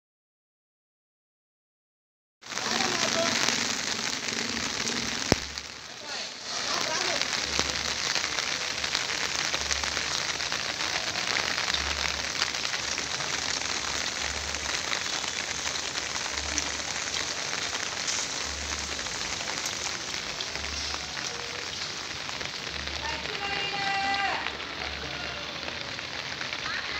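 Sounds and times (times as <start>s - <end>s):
rain on pavement and plants: 2.4s - 26.9s.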